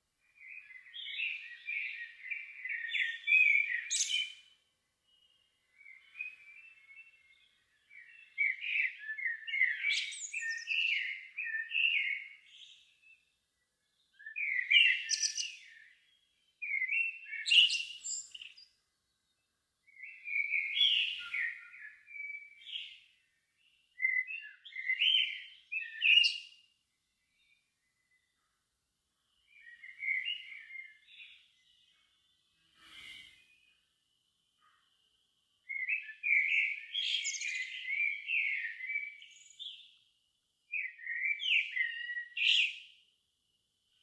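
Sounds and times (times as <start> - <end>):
songbird singing: 0.0 - 44.0.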